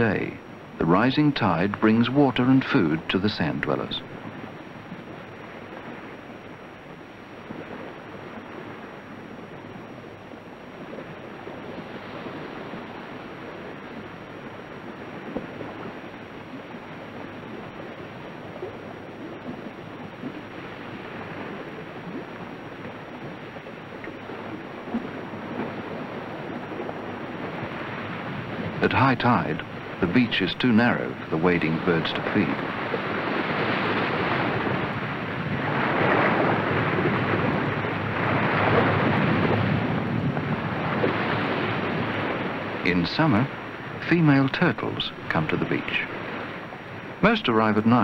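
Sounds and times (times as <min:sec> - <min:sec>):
small waves washing on sand: 0:00.0 - 0:48.0.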